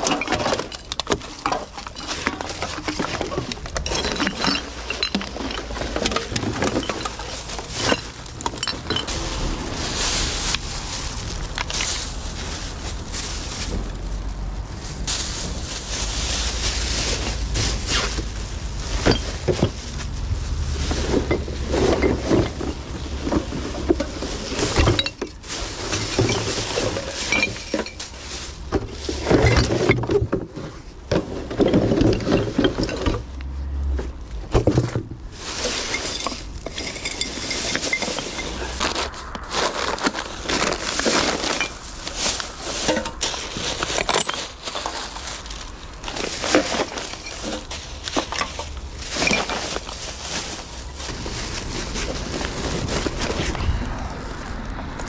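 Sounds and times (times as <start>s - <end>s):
cans and bottles clinking: 0.0s - 12.5s, 15.7s - 20.0s, 20.8s - 33.4s, 34.5s - 51.1s
plastic bin bag rustling: 0.0s - 33.3s, 34.1s - 55.0s.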